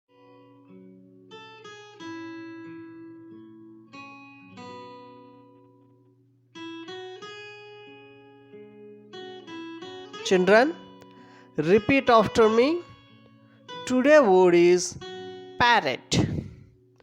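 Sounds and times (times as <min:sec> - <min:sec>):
acoustic guitar melody: 0:00.1 - 0:17.0.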